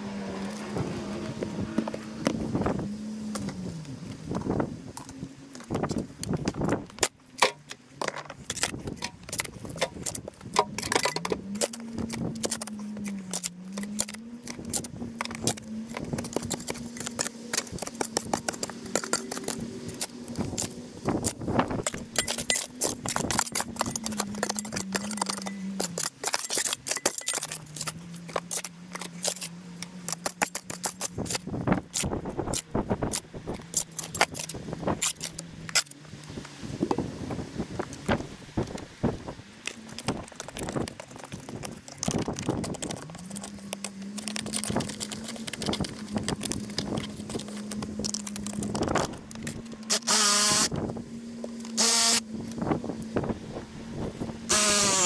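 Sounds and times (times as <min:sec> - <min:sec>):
shovel scraping soil and stones: 0:00.0 - 0:36.8, 0:39.6 - 0:50.9, 0:54.5 - 0:55.0.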